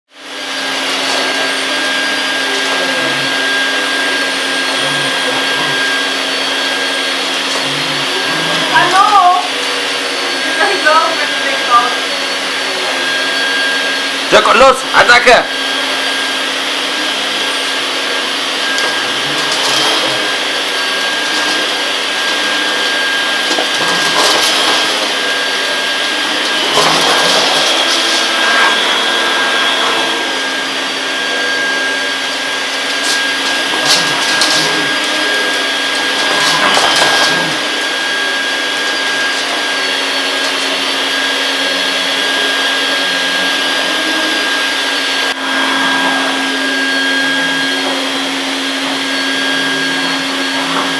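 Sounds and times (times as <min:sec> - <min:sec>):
vacuum cleaner running: 0:00.1 - 0:50.9.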